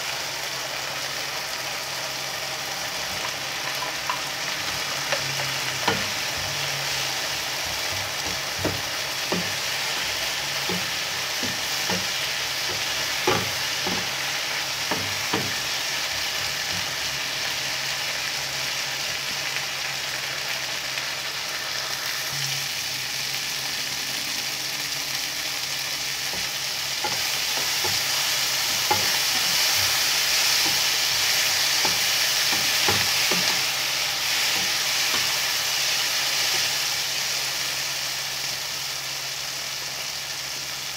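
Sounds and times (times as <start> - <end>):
vegetables sizzling in a frying pan: 0.0 - 40.9.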